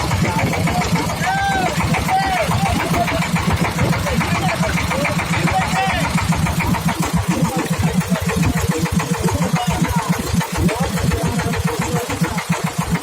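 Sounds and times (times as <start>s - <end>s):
motorboat engine chugging: 0.0s - 13.0s.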